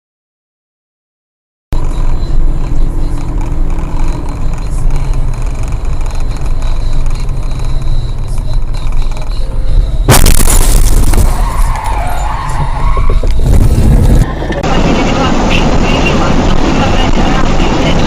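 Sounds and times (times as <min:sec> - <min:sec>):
car engine and road rumble: 0:01.7 - 0:18.0.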